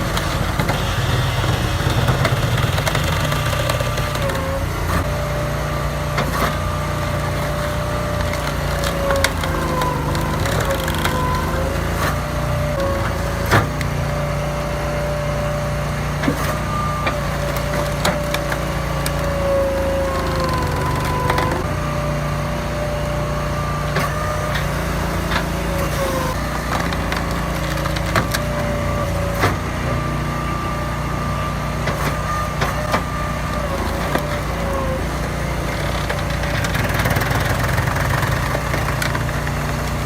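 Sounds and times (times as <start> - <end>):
wood-processing machine humming: 0.0 - 40.0.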